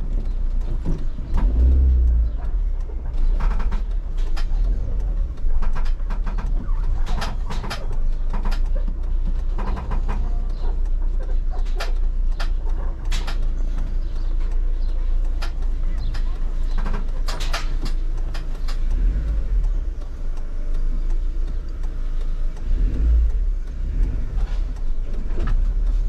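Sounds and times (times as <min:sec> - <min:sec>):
car engine and road rumble: 0:00.0 - 0:26.0
clicks and rattles: 0:00.0 - 0:26.0.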